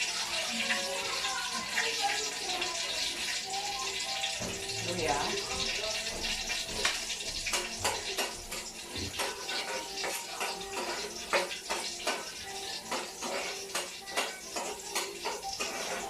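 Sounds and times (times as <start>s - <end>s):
dishes and utensils clinking: 0.0s - 16.0s
water running: 0.0s - 16.0s.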